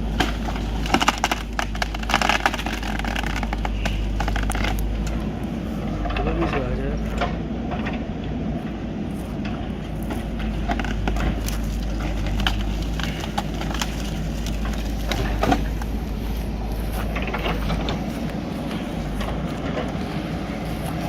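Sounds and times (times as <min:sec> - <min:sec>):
diesel engine low rumble: 0:00.0 - 0:21.0.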